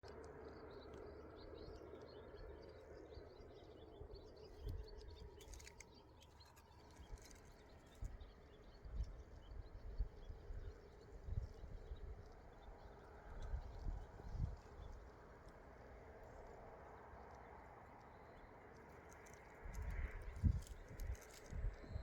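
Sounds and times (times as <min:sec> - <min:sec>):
outdoor background hum: 0:00.0 - 0:22.0
small birds chirping: 0:00.1 - 0:22.0.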